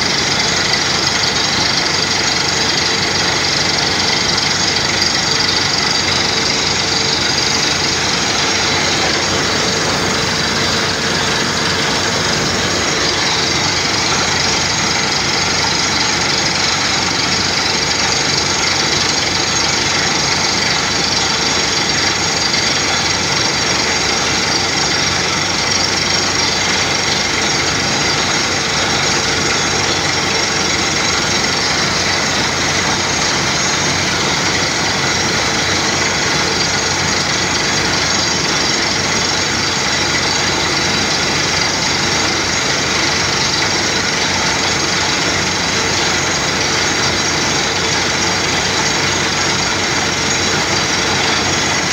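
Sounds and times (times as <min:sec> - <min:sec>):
drilling rig machine drone: 0:00.0 - 0:51.9.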